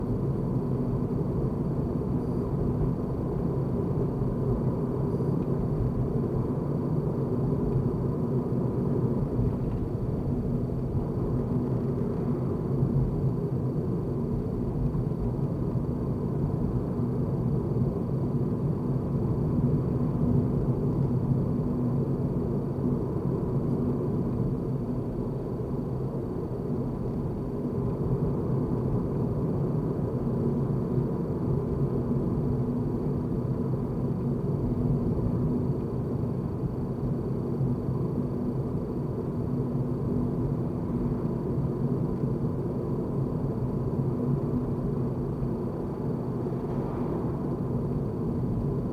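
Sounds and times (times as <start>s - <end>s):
car engine and road rumble: 0.0s - 48.9s
faint steady hum: 0.0s - 48.9s.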